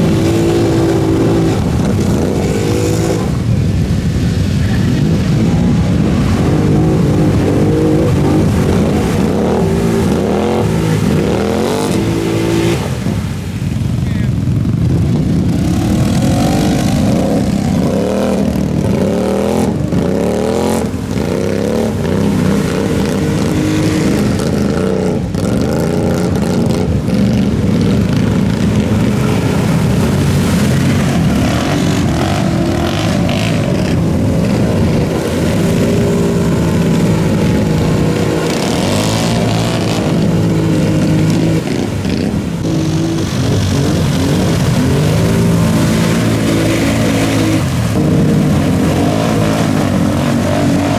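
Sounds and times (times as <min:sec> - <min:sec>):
off-road vehicle engines revving: 0:00.0 - 0:50.9.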